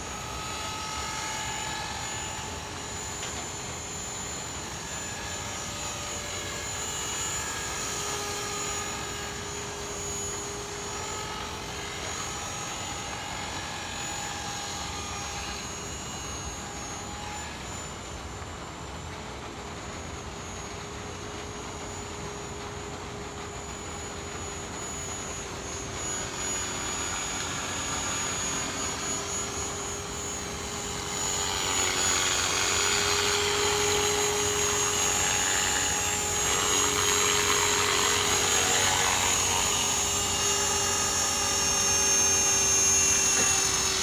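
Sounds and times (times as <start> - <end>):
rc helicopter rotor whine: 0.0 - 44.0.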